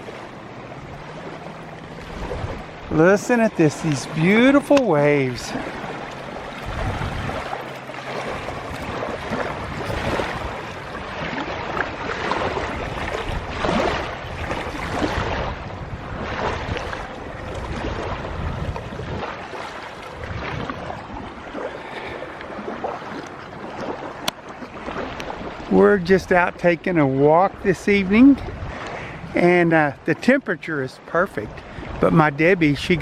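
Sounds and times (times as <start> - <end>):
lake waves lapping on shore: 0.0 - 33.0.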